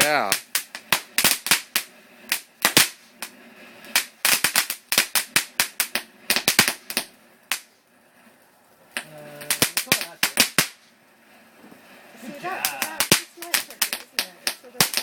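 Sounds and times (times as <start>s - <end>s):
firework cracks and bangs: 0.0s - 7.9s, 8.9s - 15.0s.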